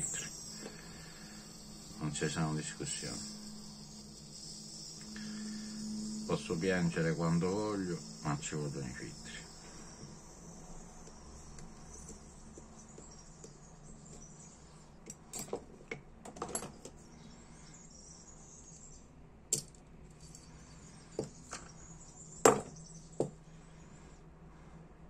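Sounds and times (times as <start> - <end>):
insect chirring: 0.0 - 15.4, 16.9 - 19.2, 20.2 - 23.8.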